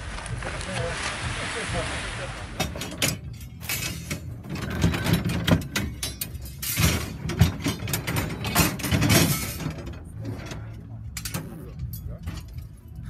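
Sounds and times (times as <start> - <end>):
iron rods clanking: 2.5 - 13.0.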